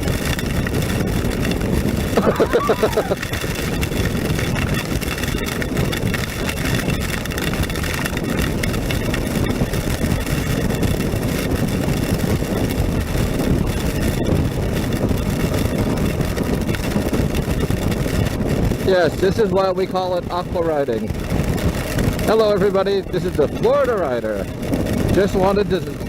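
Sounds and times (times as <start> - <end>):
motorcycle engine running: 0.0 - 26.0
wind on microphone: 0.0 - 26.0.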